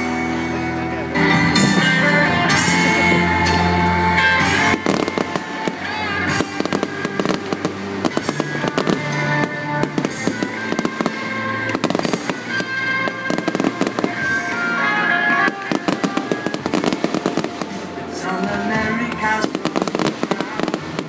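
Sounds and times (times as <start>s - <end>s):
music: 0.0s - 21.0s
fireworks bangs and crackles: 1.4s - 21.0s.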